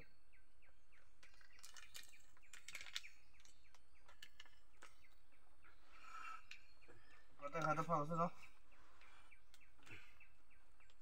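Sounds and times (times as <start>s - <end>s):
bird chirps: 0.0s - 11.0s
rustles: 1.0s - 11.0s.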